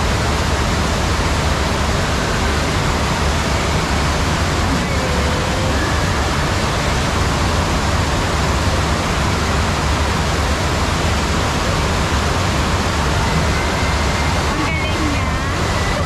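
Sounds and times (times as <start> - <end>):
rushing pumped water: 0.0 - 16.0.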